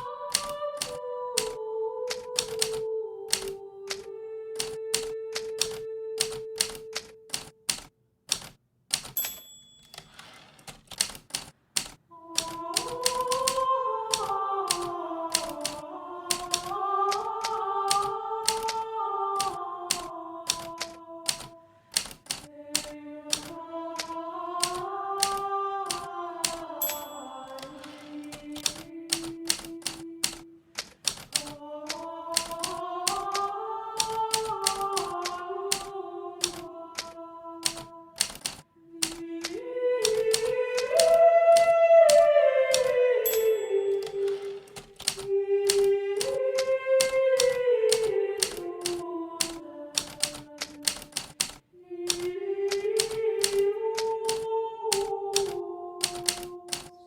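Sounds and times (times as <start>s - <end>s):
typewriter keys striking: 0.3s - 4.0s, 4.6s - 17.2s, 17.9s - 18.8s, 19.4s - 39.2s, 40.0s - 57.0s.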